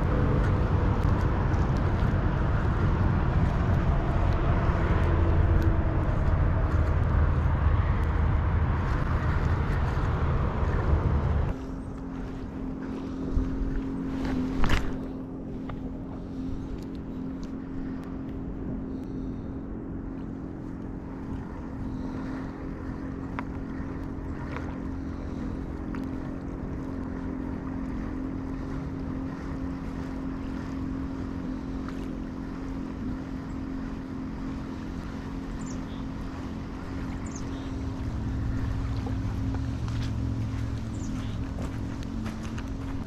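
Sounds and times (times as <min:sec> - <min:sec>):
faint wind rumble: 0:00.0 - 0:43.0
low engine drone: 0:00.0 - 0:43.0.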